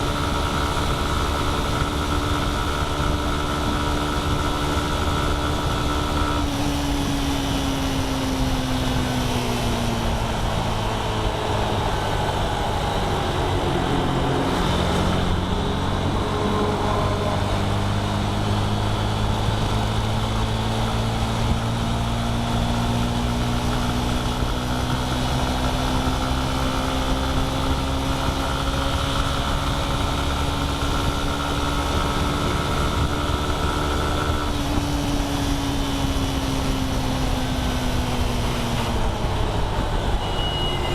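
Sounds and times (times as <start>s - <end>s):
road and wind noise: 0.0s - 40.9s
vehicle engine running: 0.0s - 40.9s.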